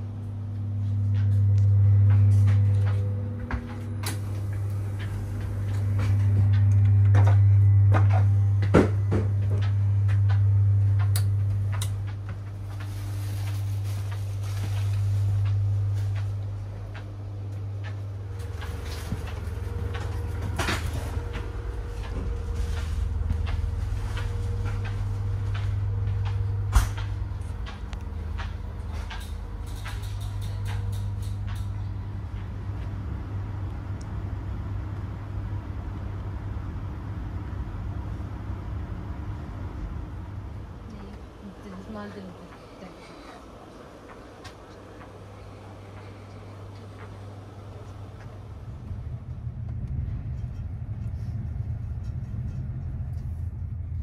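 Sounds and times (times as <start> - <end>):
train interior hum: 0.0 - 54.0.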